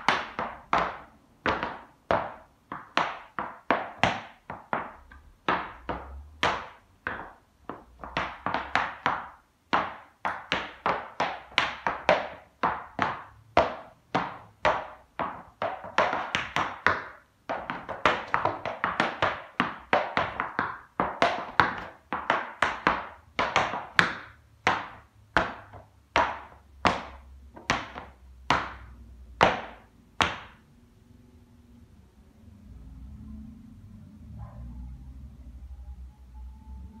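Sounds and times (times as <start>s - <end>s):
tap shoes clicking on floor: 0.0s - 30.6s.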